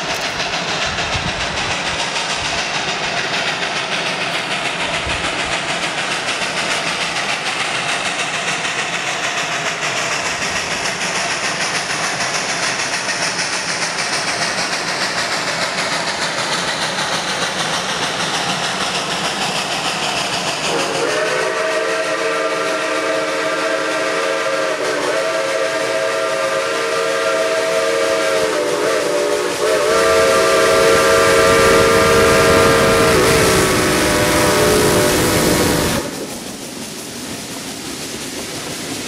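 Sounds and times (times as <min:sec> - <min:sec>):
steady hiss: 0:00.0 - 0:39.0.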